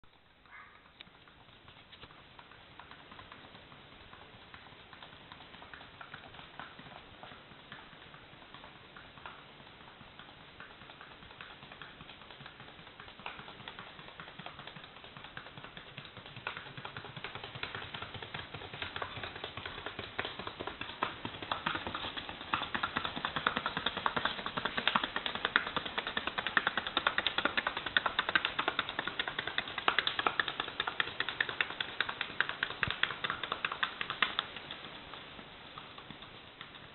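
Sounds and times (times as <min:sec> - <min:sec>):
horse hooves in rapid even gait: 0:00.0 - 0:36.9.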